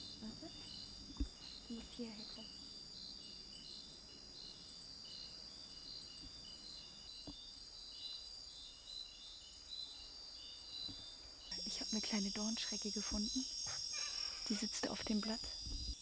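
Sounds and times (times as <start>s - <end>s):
insect chirping: 0.0s - 16.0s
insects trilling: 0.0s - 16.0s.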